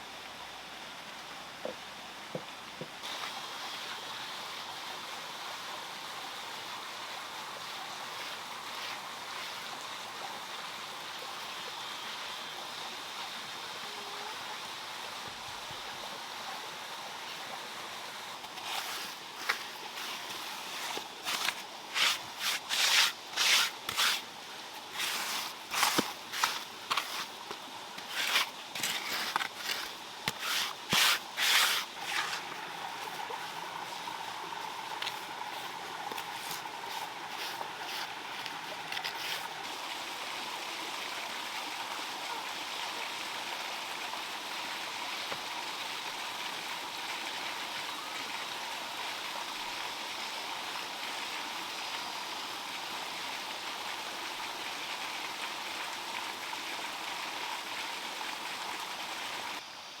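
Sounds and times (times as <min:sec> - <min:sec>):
running water: 0:00.0 - 0:59.7.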